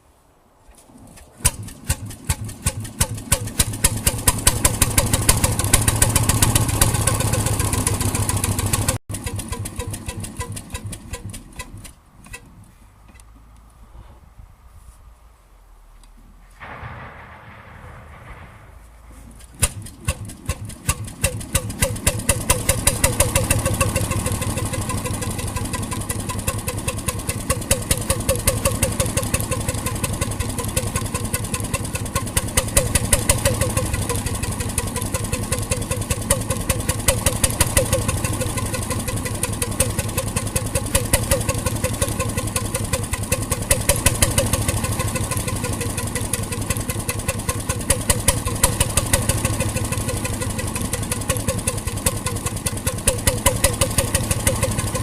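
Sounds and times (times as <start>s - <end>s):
marine engine starting and running: 1.4s - 12.0s, 19.4s - 55.0s.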